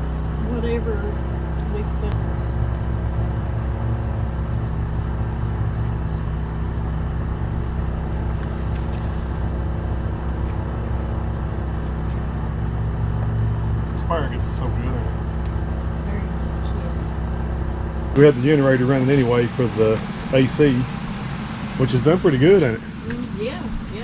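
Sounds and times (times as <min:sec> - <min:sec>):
generator running low hum: 0:00.0 - 0:24.0.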